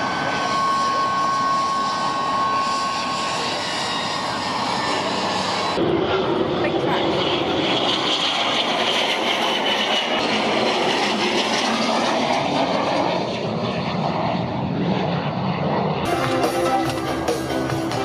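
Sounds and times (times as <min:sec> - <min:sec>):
jet engine whine: 0:00.0 - 0:18.0.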